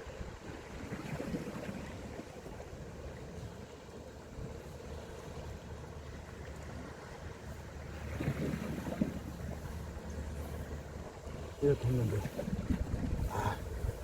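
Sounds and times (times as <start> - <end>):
faint continuous hum: 0.0 - 14.0
sea waves on shore: 0.0 - 14.0
wind: 0.0 - 14.0.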